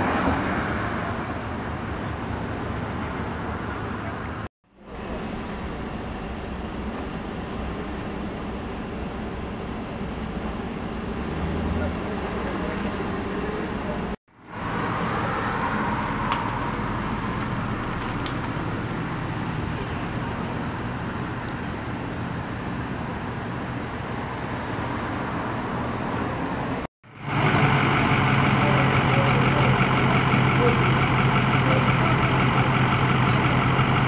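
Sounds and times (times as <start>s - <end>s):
low engine hum: 0.0s - 34.0s
street traffic noise: 0.0s - 34.0s.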